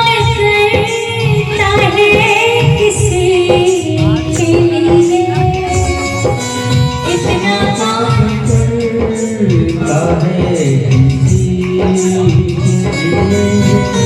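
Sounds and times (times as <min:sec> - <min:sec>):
devotional melody: 0:00.0 - 0:14.0
drum rhythm: 0:00.0 - 0:14.0
person singing: 0:00.0 - 0:14.0.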